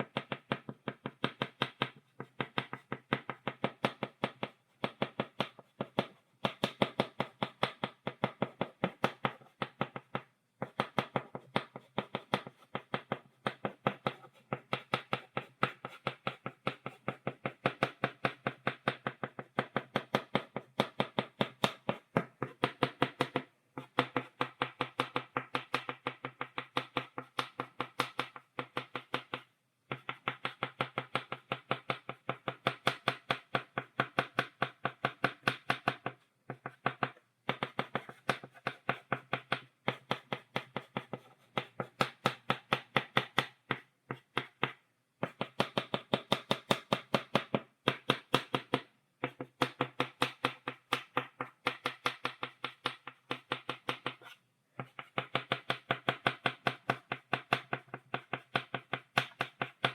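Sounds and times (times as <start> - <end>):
chalk tapping on blackboard: 0.0 - 59.9.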